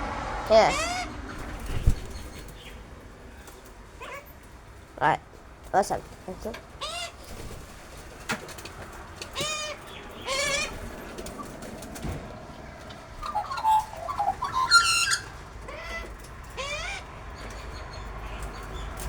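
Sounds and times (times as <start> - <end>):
wild birds calling: 0.0 - 19.0
birds chattering: 0.5 - 19.0.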